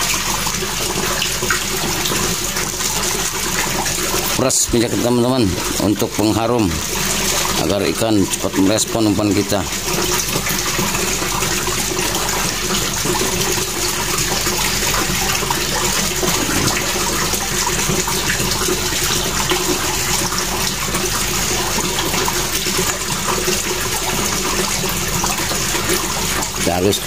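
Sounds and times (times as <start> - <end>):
running water rushing: 0.0 - 27.0.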